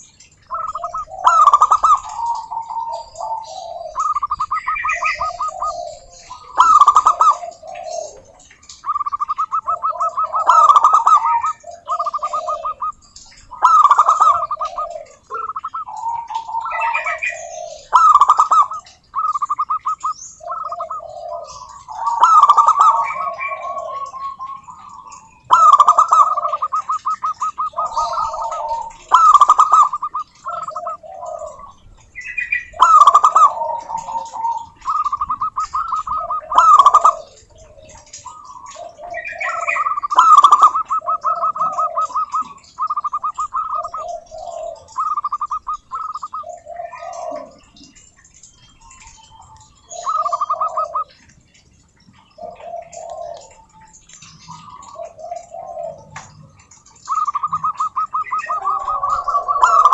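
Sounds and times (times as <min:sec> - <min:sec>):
doves cooing trills: 0:00.0 - 0:59.9
low dove coos: 0:00.0 - 0:59.9.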